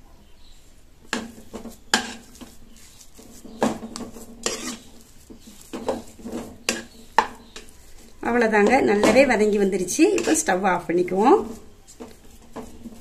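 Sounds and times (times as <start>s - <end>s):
plastic spatula scraping pan: 1.1s - 13.0s.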